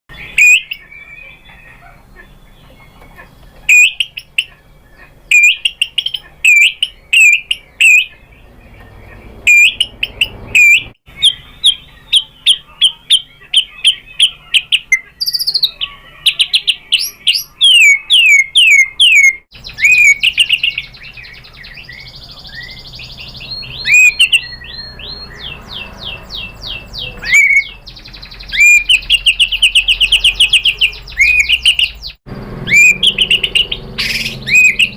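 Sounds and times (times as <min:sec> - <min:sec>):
bird singing: 0:00.1 - 0:34.9.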